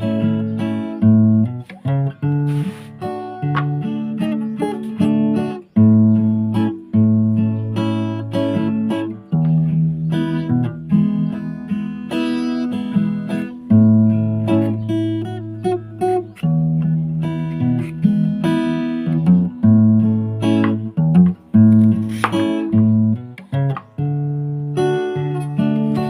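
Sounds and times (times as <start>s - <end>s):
acoustic guitar melody: 0.0s - 26.0s.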